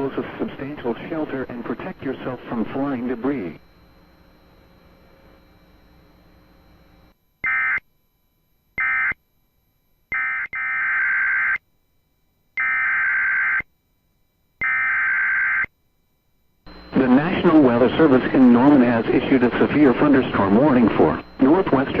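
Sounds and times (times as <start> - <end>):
faint hum: 0.0 - 22.0
harsh buzzing data tones: 0.0 - 22.0.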